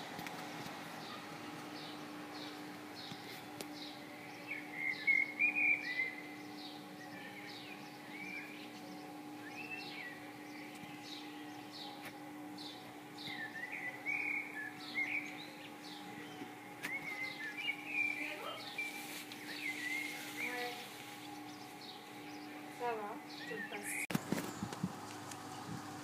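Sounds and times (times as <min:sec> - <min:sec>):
steady low hum: 0:00.0 - 0:26.0
songbirds calling: 0:00.3 - 0:26.0
warbled bird song phrases: 0:01.0 - 0:24.7.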